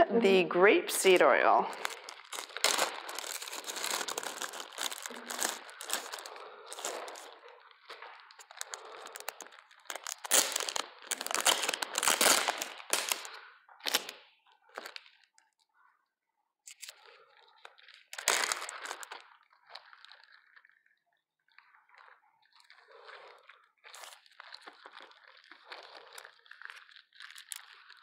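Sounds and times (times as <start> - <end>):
plastic bags crinkling: 1.0 - 15.3, 16.7 - 20.8, 21.9 - 28.0.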